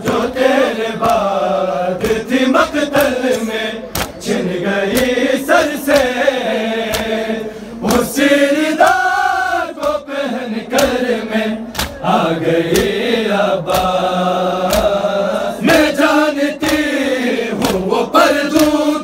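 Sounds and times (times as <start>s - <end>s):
men chanting in chorus: 0.0s - 19.0s.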